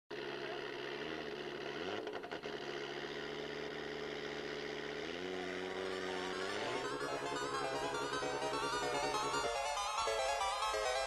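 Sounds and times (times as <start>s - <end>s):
car engine running: 0.1s - 11.0s.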